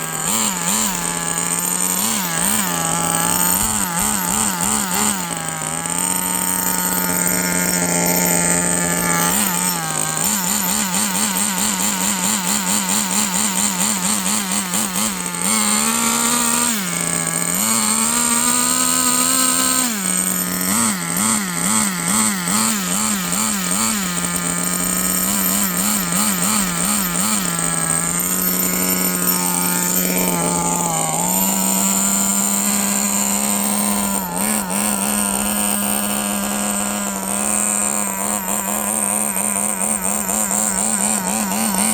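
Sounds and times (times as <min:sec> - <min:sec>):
small model engine droning: 0:00.0 - 0:41.9.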